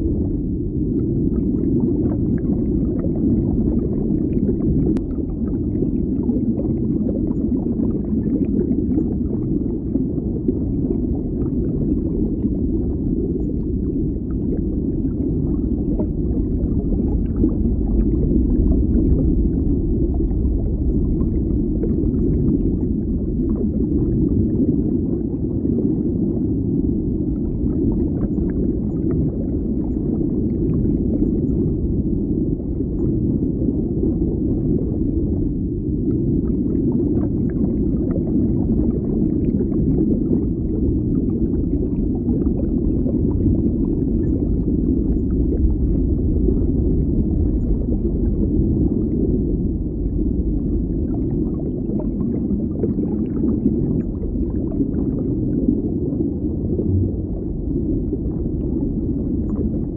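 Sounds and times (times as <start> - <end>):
underwater bubbling: 0.0 - 59.9.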